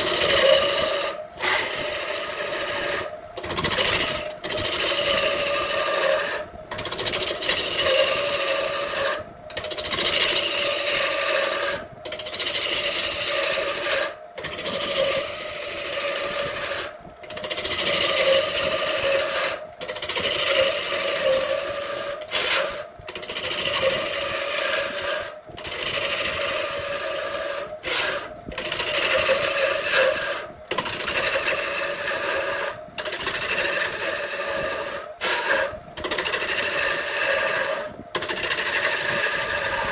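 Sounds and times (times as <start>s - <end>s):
gouge scraping wood: 0.0s - 39.9s
wood lathe humming: 0.0s - 39.9s.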